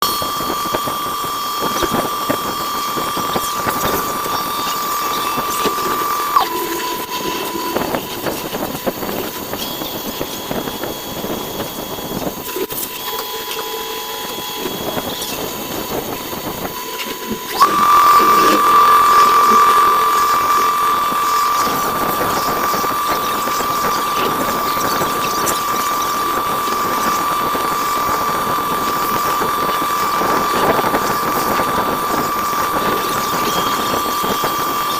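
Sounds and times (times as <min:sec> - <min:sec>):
machine spindle whining: 0:00.0 - 0:34.9.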